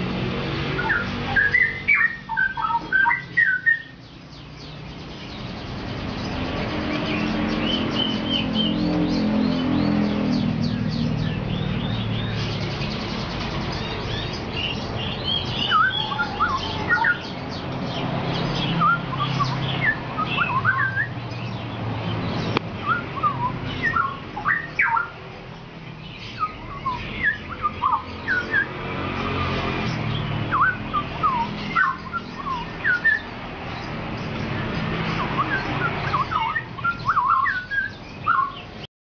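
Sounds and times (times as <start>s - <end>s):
songbird chirping and whistling: 0.7s - 21.7s, 22.3s - 25.2s, 26.0s - 38.8s.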